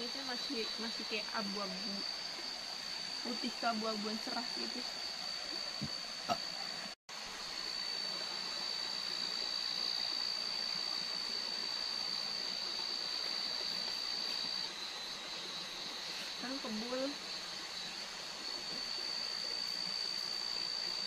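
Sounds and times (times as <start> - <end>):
insect high-pitched trill: 0.0 - 6.9, 7.6 - 21.0.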